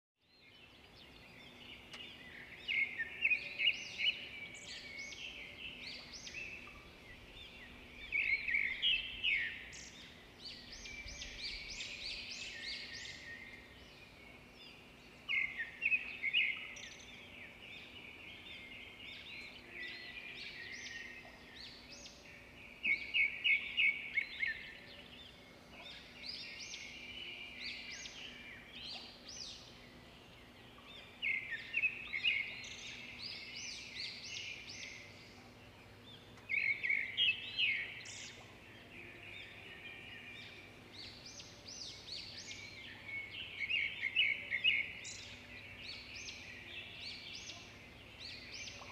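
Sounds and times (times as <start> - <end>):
birds singing: 0.2 - 48.9.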